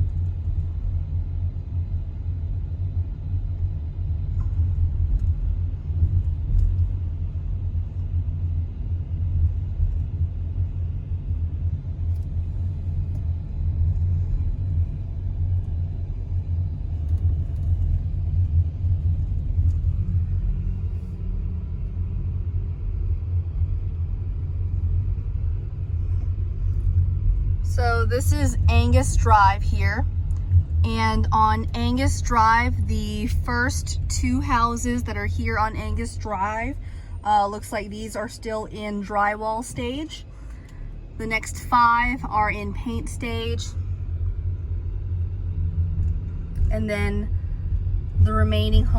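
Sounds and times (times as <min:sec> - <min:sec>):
car road and engine noise: 0:00.0 - 0:48.9.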